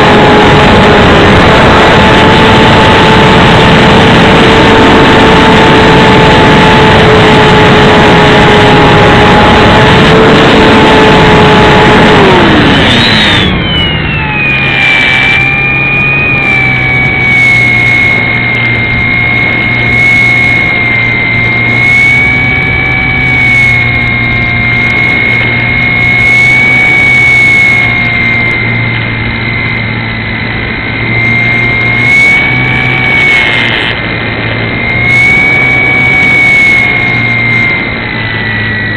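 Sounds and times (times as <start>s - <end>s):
electric motor and propeller whine: 0.0s - 38.9s
low hum: 0.0s - 38.9s
wind noise: 0.0s - 38.9s.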